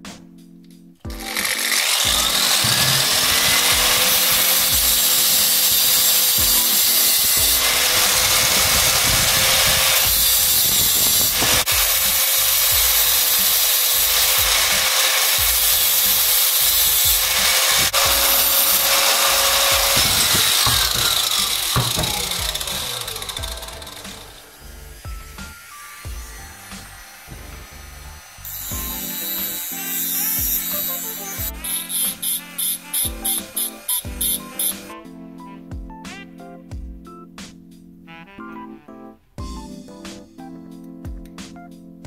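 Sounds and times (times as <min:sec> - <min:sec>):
power tool motor: 0:01.1 - 0:35.0
hissy cutting noise: 0:01.2 - 0:35.0.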